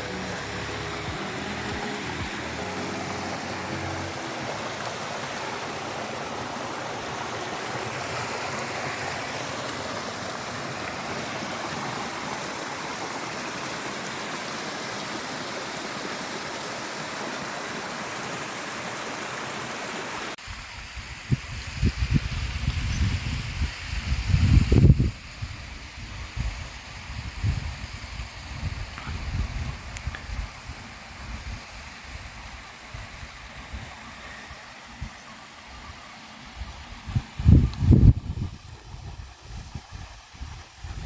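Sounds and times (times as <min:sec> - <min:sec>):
stream water rushing: 0:00.0 - 0:21.6, 0:24.5 - 0:41.0.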